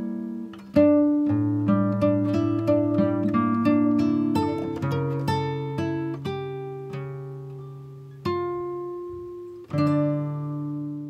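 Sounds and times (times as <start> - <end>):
plucked string instrument: 0.0 - 11.0.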